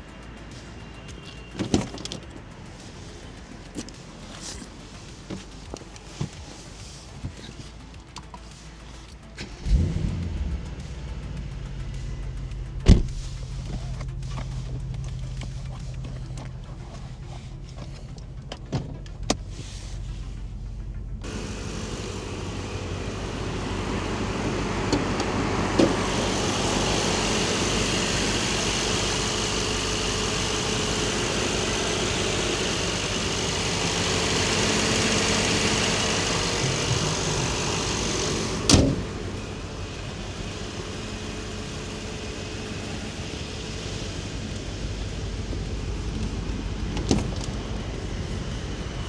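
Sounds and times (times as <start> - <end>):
car engine running: 0.0 - 49.0
road and wind noise: 0.0 - 49.0.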